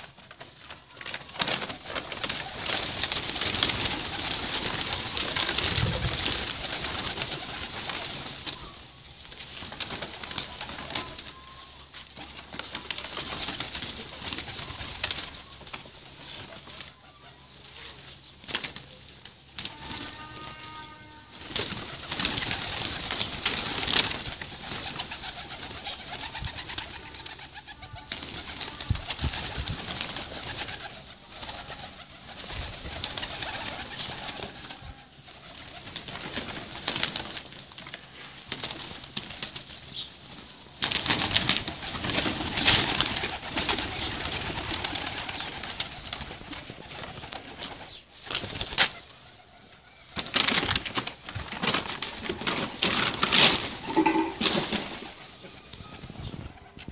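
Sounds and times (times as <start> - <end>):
pigeons cooing: 0.7 - 37.2, 40.8 - 56.9.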